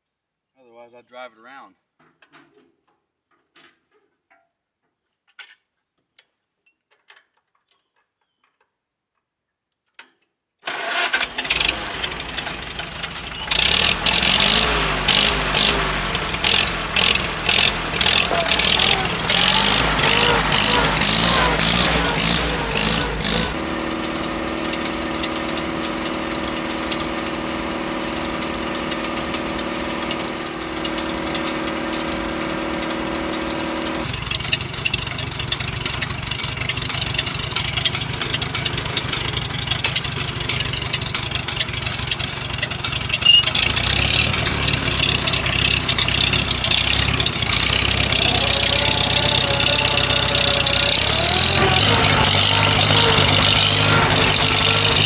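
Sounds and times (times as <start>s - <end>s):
tractor engine running rough: 10.6s - 55.0s.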